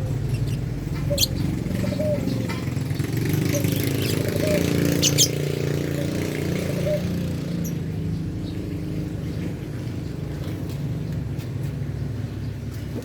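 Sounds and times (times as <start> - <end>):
motor engine idling: 0.0 - 13.0.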